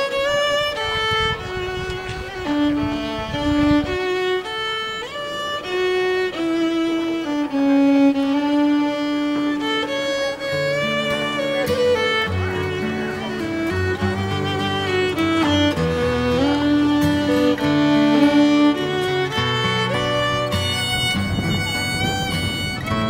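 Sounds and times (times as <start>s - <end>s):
low accompanying notes: 0.0s - 23.0s
slow violin melody: 0.0s - 23.0s.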